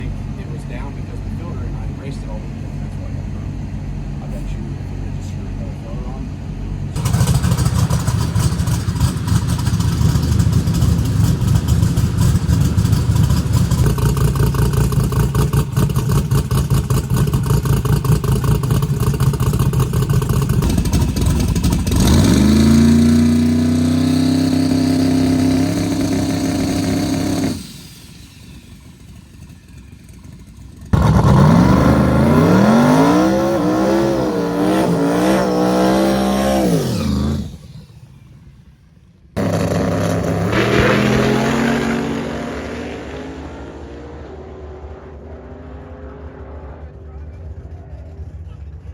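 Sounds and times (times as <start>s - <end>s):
drag car engine revving: 0.0s - 38.8s, 39.4s - 48.9s.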